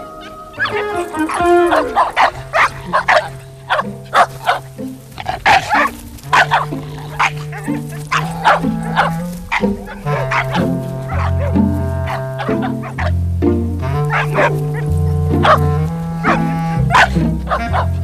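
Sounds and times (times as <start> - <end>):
background score music: 0.0 - 18.0
dogs barking and yipping: 0.0 - 18.0.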